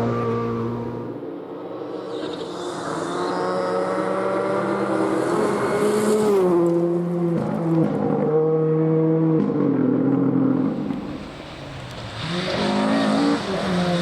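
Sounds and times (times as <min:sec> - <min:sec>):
rally car engine shifting gears: 0:00.0 - 0:01.2, 0:03.9 - 0:14.0.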